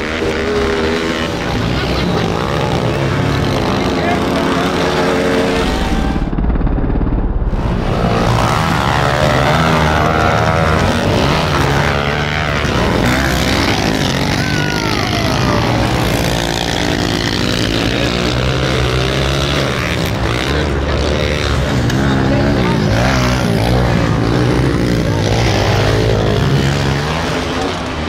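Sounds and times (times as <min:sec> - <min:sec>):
pit bike engines revving: 0:00.0 - 0:06.4, 0:07.5 - 0:28.0.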